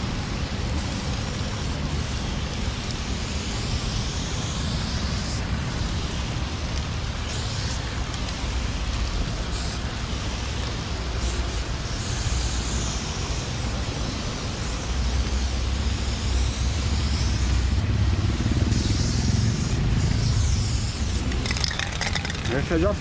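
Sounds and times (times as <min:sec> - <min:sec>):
road vehicle rumble with hiss: 0:00.0 - 0:23.0.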